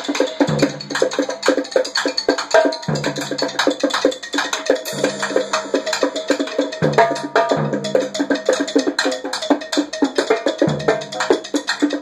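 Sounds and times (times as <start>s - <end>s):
drum kit and bongos playing: 0.0s - 12.0s.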